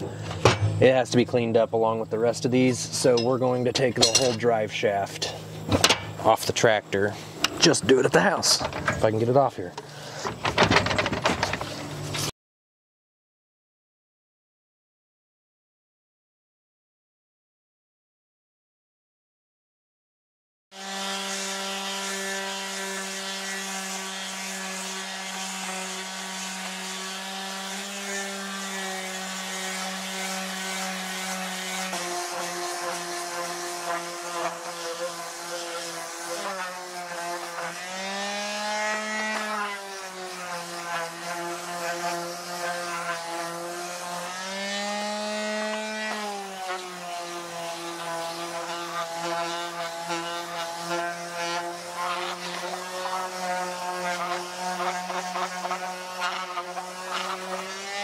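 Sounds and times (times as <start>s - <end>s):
power sander whining: 1.5s - 12.3s, 20.8s - 58.0s.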